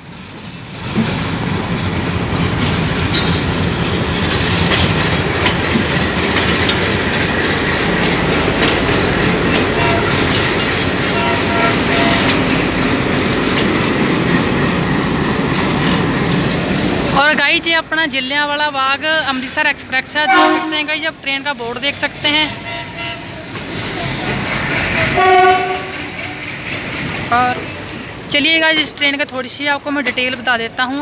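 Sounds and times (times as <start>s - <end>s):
wheels clicking on track: 0.0s - 20.6s, 23.3s - 31.0s
diesel locomotive engine: 0.0s - 31.0s.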